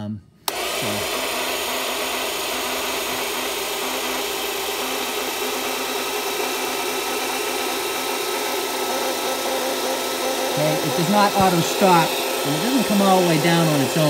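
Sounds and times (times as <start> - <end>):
electric pump motor humming: 0.5 - 14.0.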